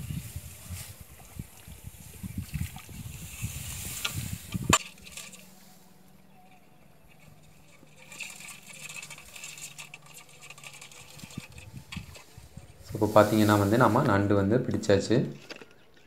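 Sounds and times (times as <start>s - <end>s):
rustling of rice stalks: 0.0s - 14.3s
wind rumbling on microphone: 0.0s - 14.8s.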